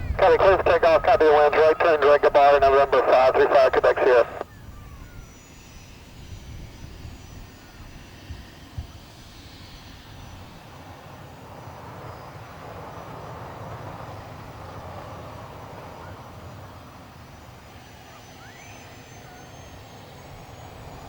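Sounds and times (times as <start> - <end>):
jet engines running up: 0.0 - 21.0.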